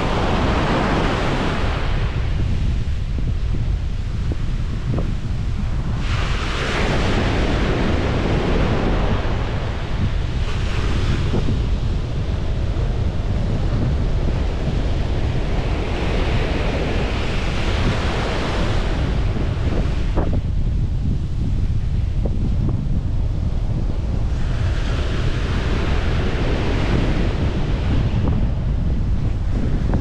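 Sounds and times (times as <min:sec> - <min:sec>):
ocean waves breaking: 0:00.0 - 0:30.0
wind buffeting microphone: 0:00.0 - 0:30.0.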